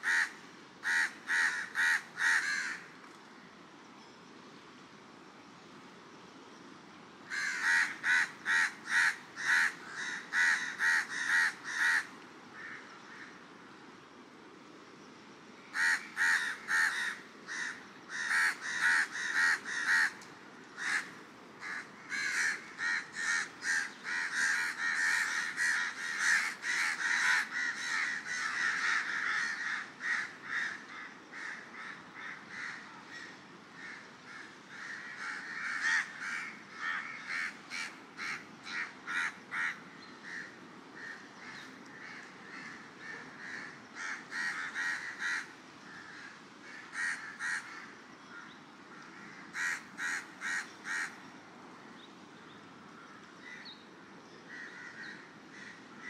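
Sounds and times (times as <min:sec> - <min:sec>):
birds calling: 0:07.3 - 0:13.4, 0:15.6 - 0:56.0.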